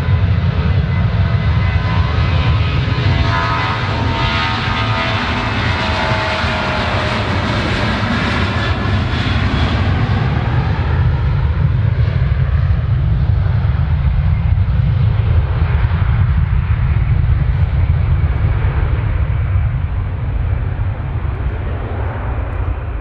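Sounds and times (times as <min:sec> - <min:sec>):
jet airliner engines rumbling: 0:00.0 - 0:23.0.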